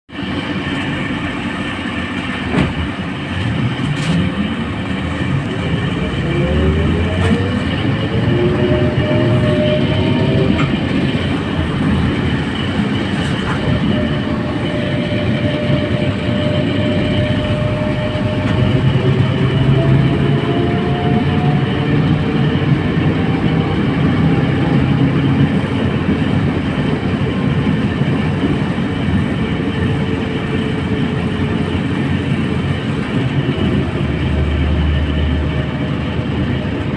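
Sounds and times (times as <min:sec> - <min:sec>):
road and body rumble: 0:00.1 - 0:36.9
electric traction motor whining: 0:03.2 - 0:36.9.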